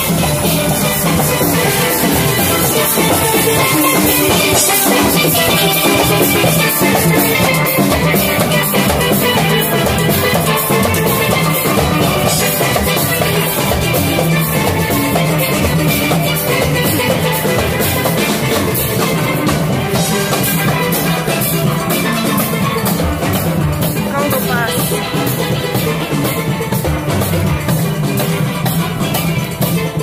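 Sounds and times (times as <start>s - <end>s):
drum kit beat: 0.0s - 30.0s
steel pans playing a tune: 0.0s - 30.0s.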